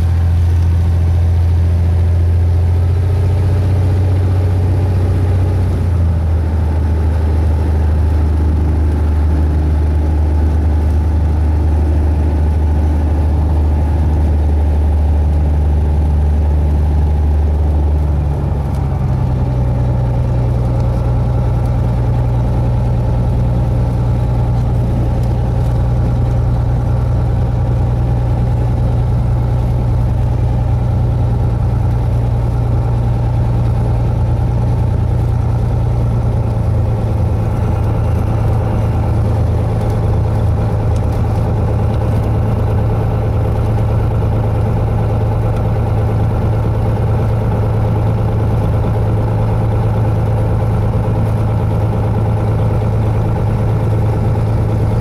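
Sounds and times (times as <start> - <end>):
airplane engine and propeller: 0.0 - 55.0.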